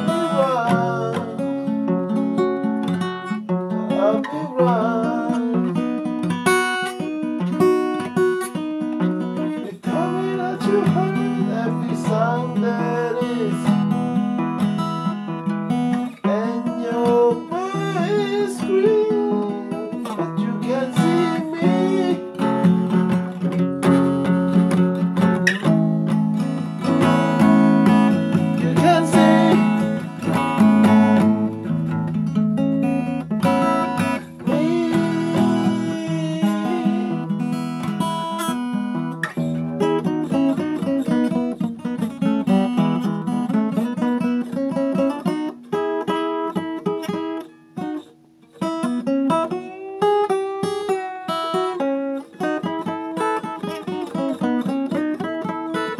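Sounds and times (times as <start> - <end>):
picked guitar line with bends: 0.0 - 55.9
strummed acoustic guitar chords: 0.0 - 55.9.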